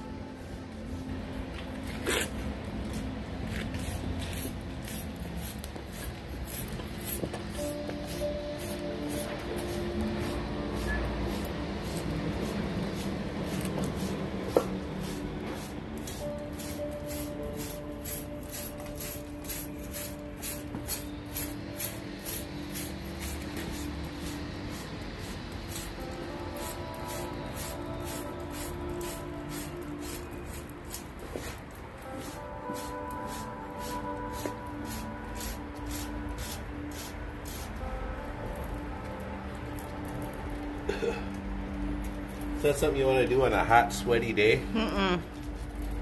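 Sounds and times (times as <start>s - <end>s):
background music with held notes: 0.0s - 46.0s.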